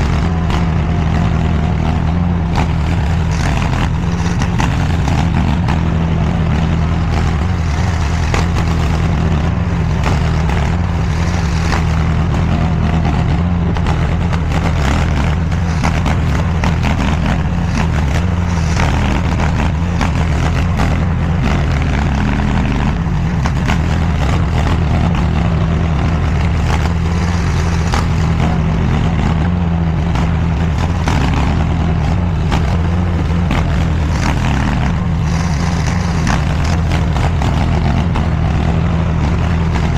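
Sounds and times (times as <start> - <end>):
mini skid steer engine running: 0.0 - 39.9.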